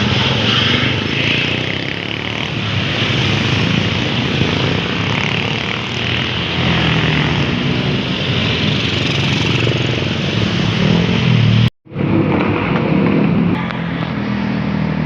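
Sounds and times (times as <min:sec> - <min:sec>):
road noise: 0:00.0 - 0:15.0
vehicle engine running loudly: 0:00.0 - 0:15.0.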